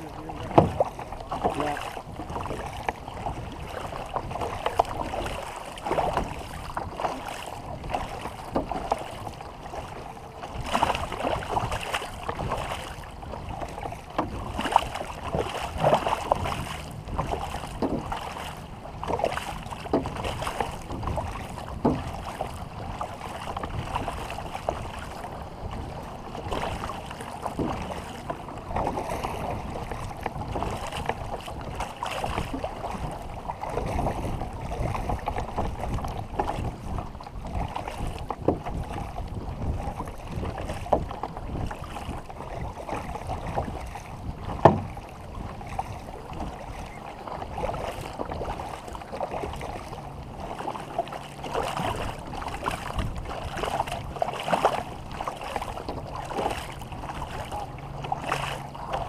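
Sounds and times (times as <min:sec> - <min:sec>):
paddles splashing: 0:00.0 - 0:59.0
water lapping: 0:00.0 - 0:59.0
wind on microphone: 0:00.0 - 0:59.0.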